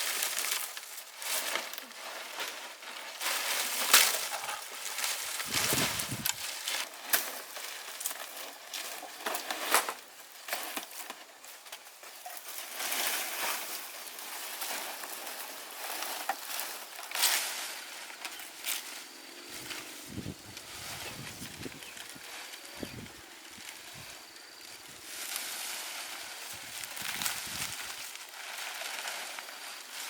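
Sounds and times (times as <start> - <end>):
dry material rustling and crackling: 0.0 - 30.0.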